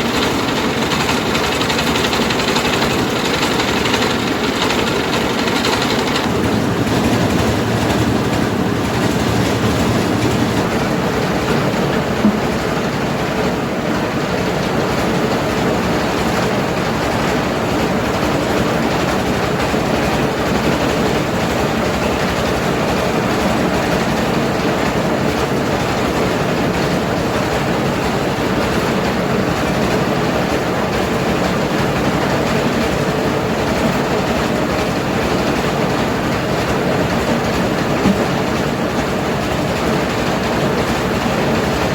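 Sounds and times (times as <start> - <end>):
rice milling machine running: 0.0 - 41.9.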